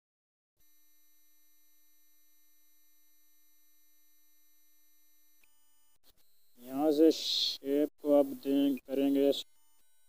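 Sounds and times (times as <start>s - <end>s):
faint electronic hum: 0.6s - 10.0s.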